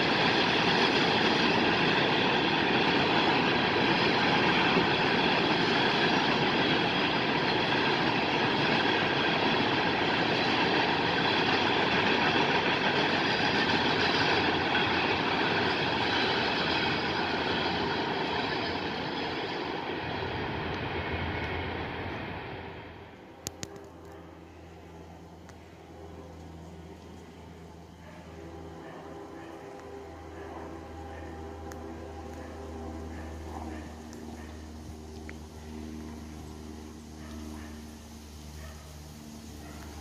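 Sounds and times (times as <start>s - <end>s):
train wheels rolling on track: 0.0s - 40.0s.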